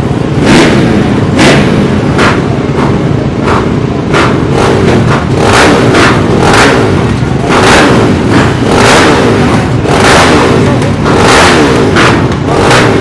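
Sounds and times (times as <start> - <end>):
motocross bikes revving: 0.0 - 13.0
steady engine drone: 0.0 - 13.0.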